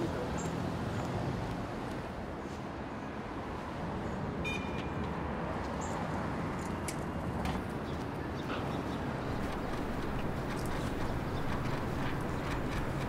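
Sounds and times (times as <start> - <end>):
traffic hum: 0.0 - 13.0.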